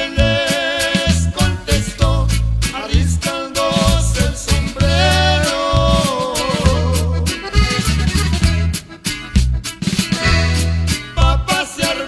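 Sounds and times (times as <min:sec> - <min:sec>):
bass line: 0:00.0 - 0:12.0
steady drum beat: 0:00.0 - 0:12.0.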